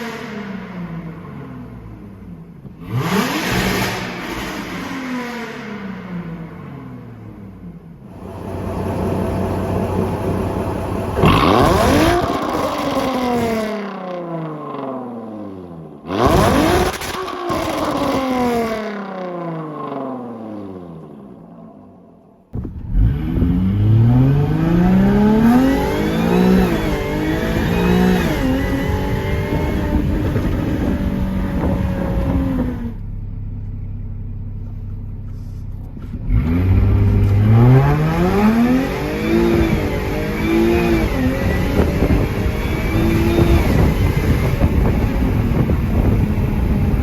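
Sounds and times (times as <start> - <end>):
car engine revving hard: 2.8 - 7.4, 8.1 - 21.2, 22.8 - 33.0, 36.2 - 47.0.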